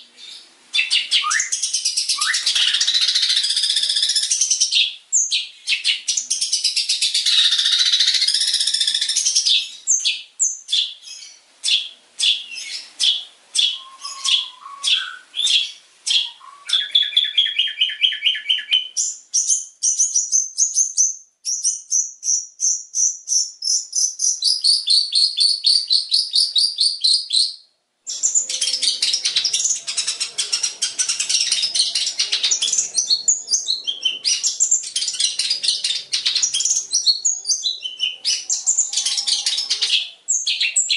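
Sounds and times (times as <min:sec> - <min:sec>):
bird singing rapid high chirps: 0:00.0 - 0:40.9.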